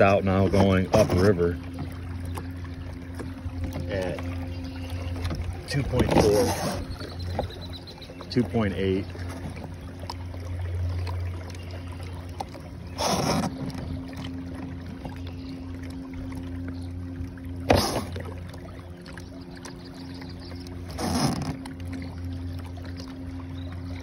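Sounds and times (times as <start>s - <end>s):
electric boat motor humming: 0.0s - 24.0s.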